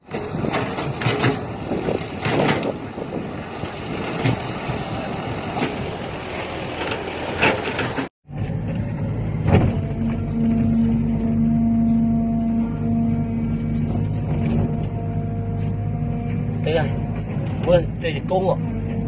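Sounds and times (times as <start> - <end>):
diesel machine rumbling: 0.0 - 19.0.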